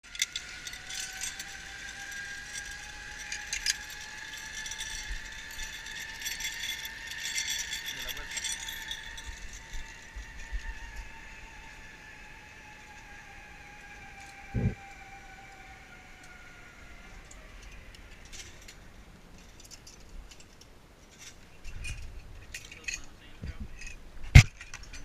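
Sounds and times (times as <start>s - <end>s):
zipline pulleys whining on cable: 0.0s - 22.0s.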